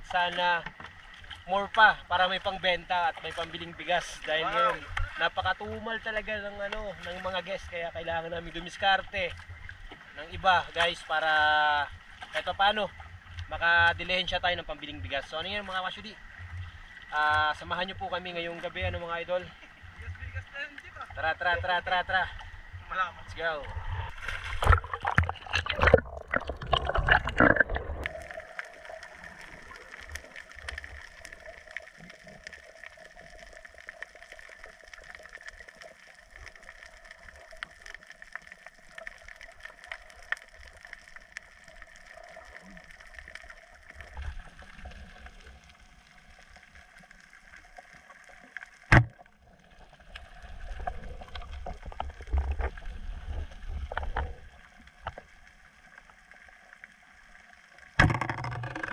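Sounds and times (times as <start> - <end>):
muffled underwater noise: 0.0 - 49.2.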